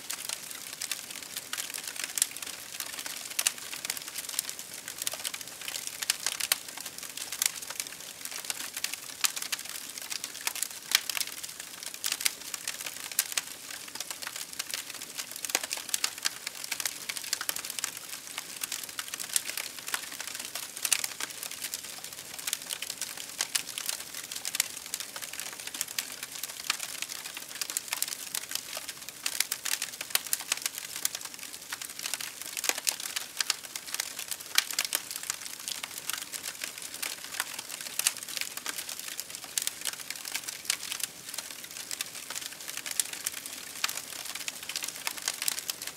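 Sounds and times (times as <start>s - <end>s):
wood fire crackling and popping: 0.1s - 45.9s.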